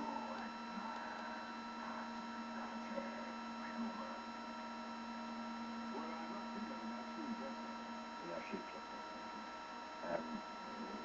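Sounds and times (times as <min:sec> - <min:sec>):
electronic circuitry hum: 0:00.0 - 0:11.0.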